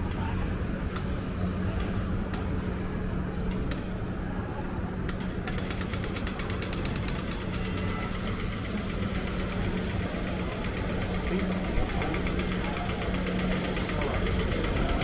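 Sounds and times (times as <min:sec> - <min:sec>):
idling traffic hum: 0:00.0 - 0:15.0.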